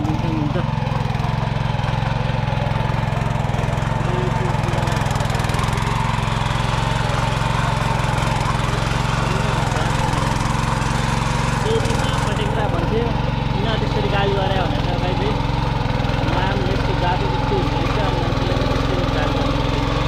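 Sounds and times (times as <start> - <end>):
power tiller engine running: 0.0 - 20.0.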